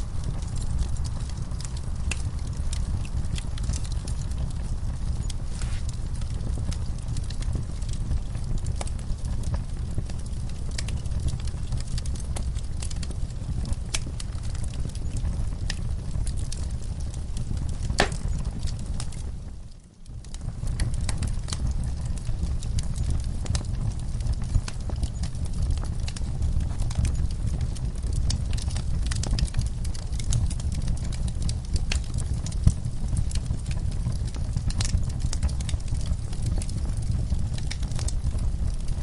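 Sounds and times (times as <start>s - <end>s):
fireplace crackling and popping: 0.0s - 39.0s.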